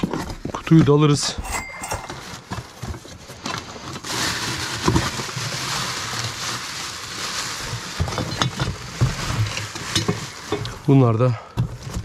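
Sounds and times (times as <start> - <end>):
rummaging in cardboard box: 0.0 - 12.0.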